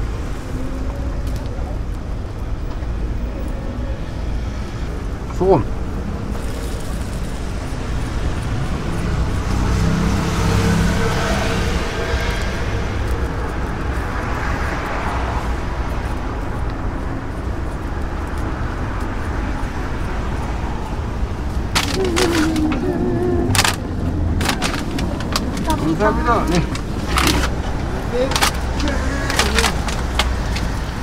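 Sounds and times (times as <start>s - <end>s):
cars passing: 0.0s - 31.0s
low traffic rumble: 0.0s - 31.0s.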